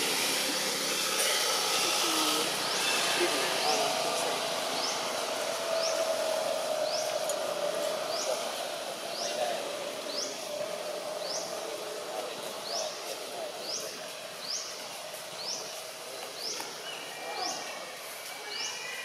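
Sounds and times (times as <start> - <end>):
steady drone: 0.0 - 18.7.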